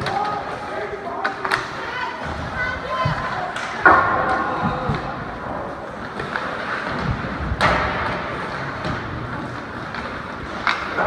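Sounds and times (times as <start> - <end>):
background crowd hubbub: 0.0 - 11.0.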